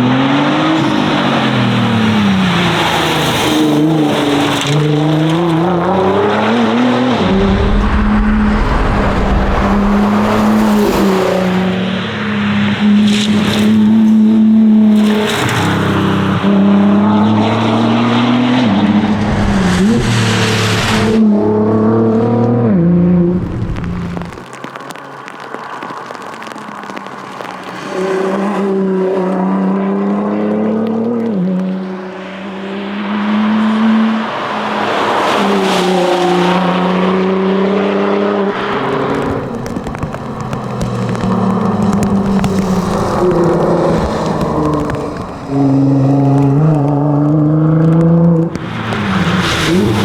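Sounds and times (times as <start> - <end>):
car engine revving hard: 0.0 - 24.4, 27.4 - 50.0
road and tyre noise: 0.0 - 50.0.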